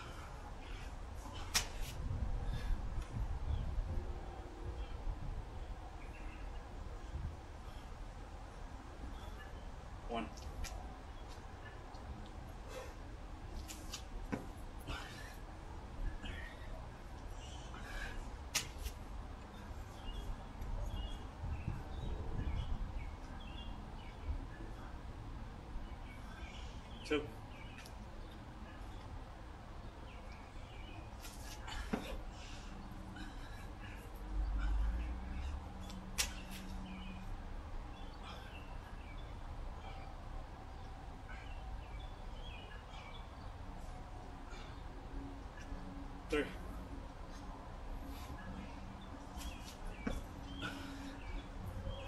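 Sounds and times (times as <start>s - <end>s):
small birds chirping: 5.6s - 52.0s.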